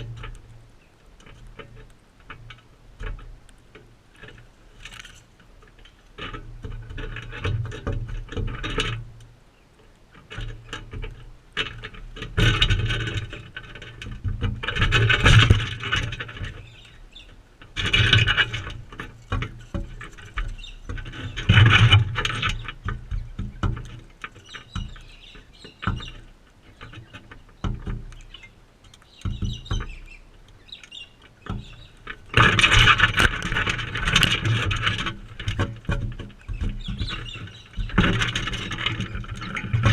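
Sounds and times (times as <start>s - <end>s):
birds scraping and knocking at feeder: 0.0s - 0.6s, 1.2s - 9.2s, 10.1s - 39.9s
quiet scratching: 0.0s - 39.9s.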